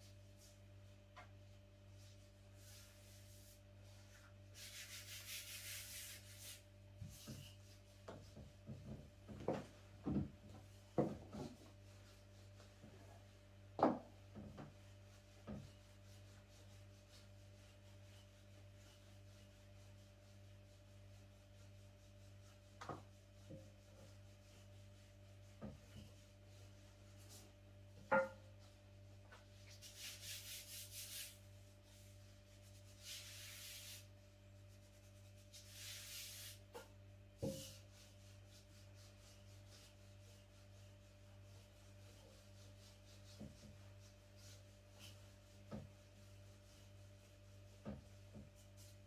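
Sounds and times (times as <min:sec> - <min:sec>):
rubbing and scraping on wood: 0:01.2 - 0:13.0, 0:13.9 - 0:49.0.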